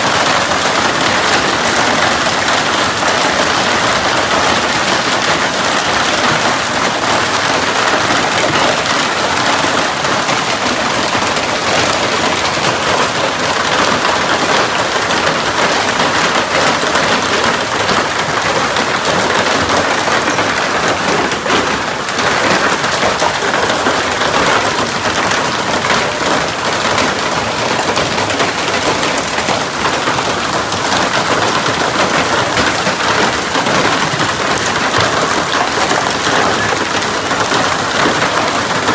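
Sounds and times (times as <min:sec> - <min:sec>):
hail clattering on ground and truck: 0:00.0 - 0:38.9.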